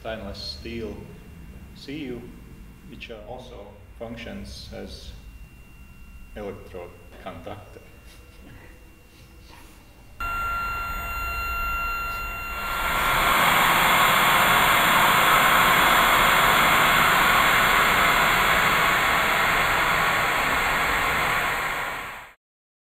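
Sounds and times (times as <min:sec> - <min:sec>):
electronic noise drone: 0:00.0 - 0:22.4
thin steady tones: 0:00.0 - 0:22.4.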